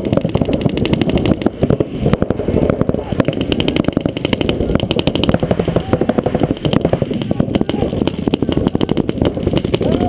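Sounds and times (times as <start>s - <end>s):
paintball markers firing rapidly: 0.0s - 10.0s.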